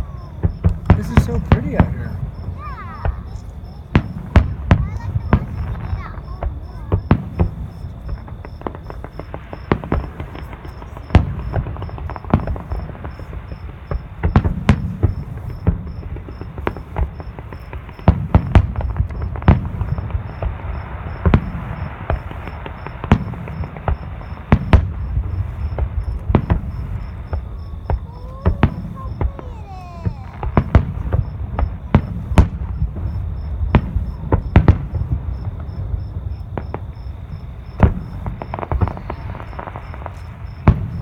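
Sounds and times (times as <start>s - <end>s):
crickets chirping: 0.0s - 41.0s
fireworks bangs: 0.0s - 41.0s.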